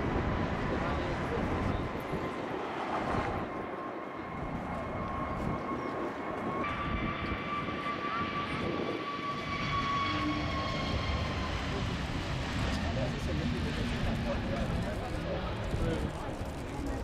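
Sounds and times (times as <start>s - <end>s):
jet engines whining and rumbling: 0.0s - 17.0s.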